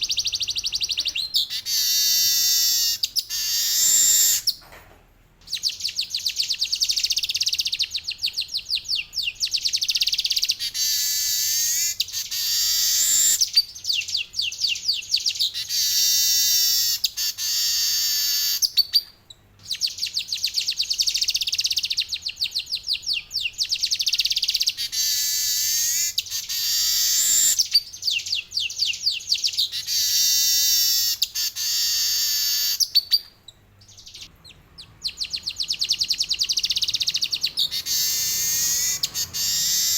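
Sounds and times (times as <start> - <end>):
bird singing rolling trills: 0.0 - 4.6, 5.4 - 39.9.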